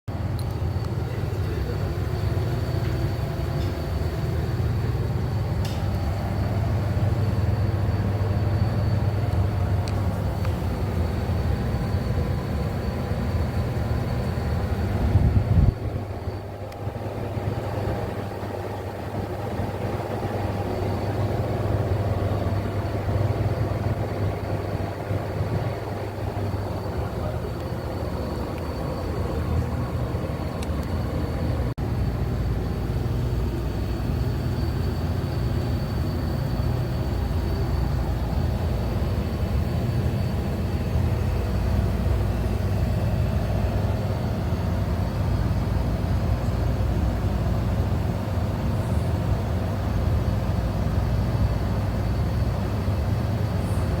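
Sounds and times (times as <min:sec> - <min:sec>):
compressor and fan hum: 0:00.1 - 0:54.0
high whine: 0:00.1 - 0:54.0.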